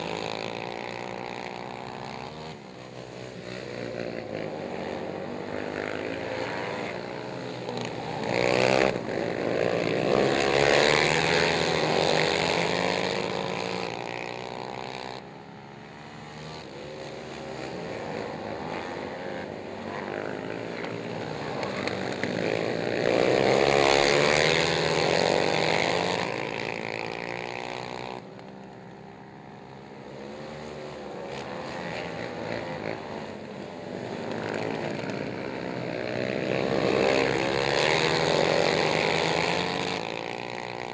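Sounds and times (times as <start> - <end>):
atv engines revving: 0.0 - 40.9.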